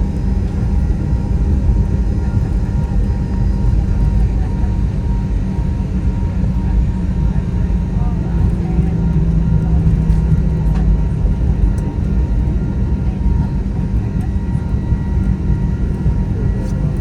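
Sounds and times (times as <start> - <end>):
aircraft cabin low rumble: 0.0 - 17.0.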